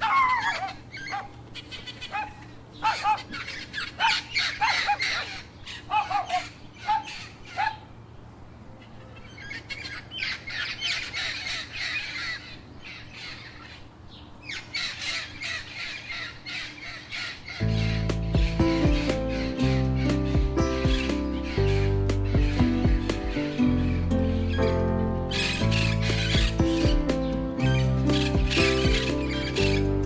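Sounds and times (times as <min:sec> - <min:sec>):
flock of birds chattering: 0:00.0 - 0:30.0.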